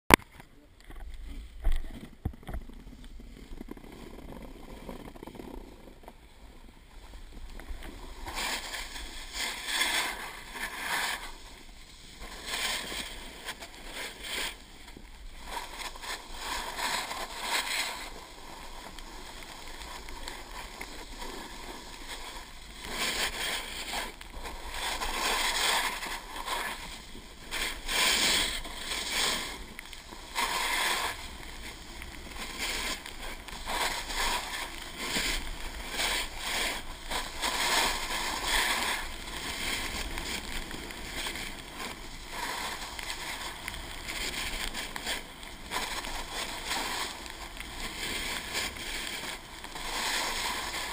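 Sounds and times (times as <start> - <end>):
snowboard edges hissing on snow: 6.4 - 50.9.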